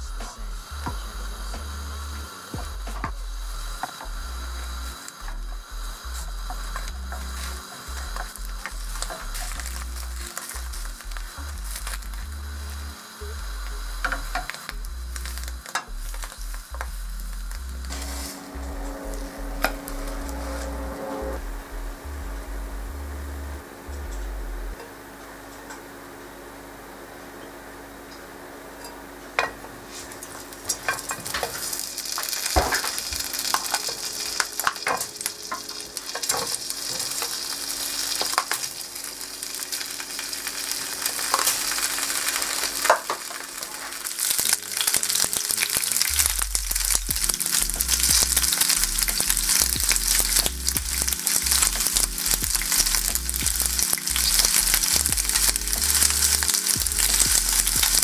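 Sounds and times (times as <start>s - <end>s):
pasta sizzling in oil: 0.0s - 21.4s, 29.4s - 58.0s.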